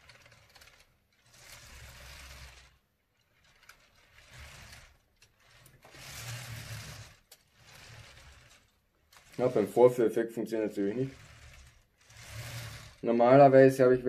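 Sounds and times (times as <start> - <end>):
plastic toy wheels whirring and rattling: 0.0 - 13.9.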